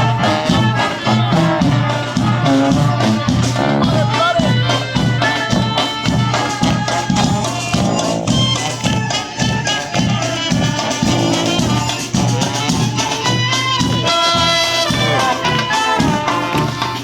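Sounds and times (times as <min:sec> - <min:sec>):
klezmer band with brass horns: 0:00.0 - 0:17.0.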